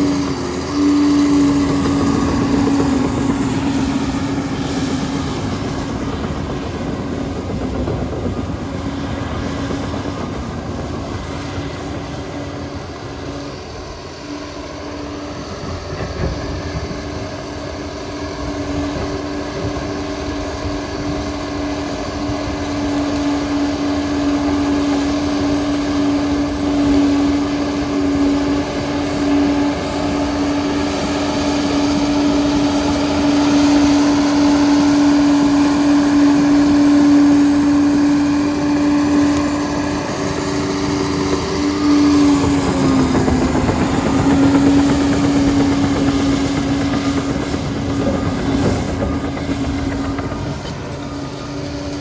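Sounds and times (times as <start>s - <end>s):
bulldozer engine droning: 0.0s - 52.0s.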